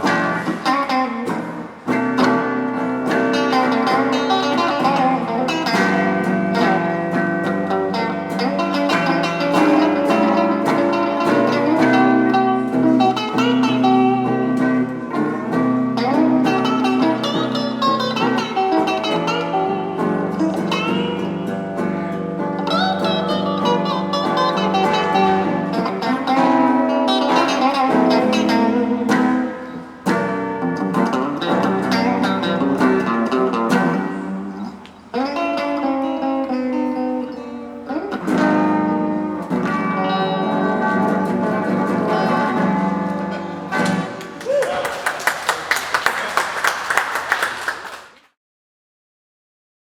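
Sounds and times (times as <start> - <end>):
solo guitar melody: 0.0 - 44.4.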